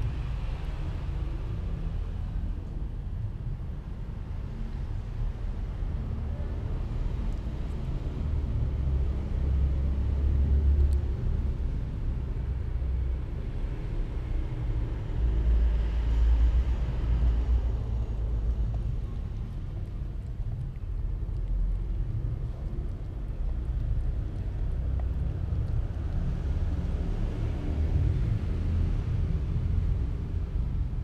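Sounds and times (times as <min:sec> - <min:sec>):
low rumbling noise: 0:00.0 - 0:31.0.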